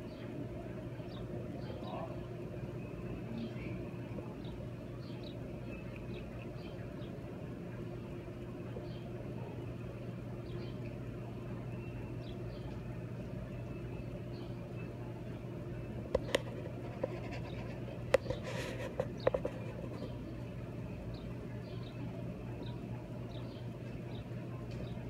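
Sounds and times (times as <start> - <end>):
large fan humming: 0.0 - 25.0.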